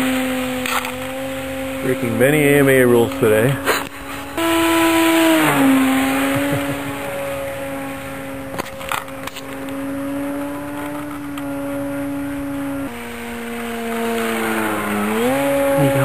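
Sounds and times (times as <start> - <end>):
model airplane motor whine: 0.0 - 16.0.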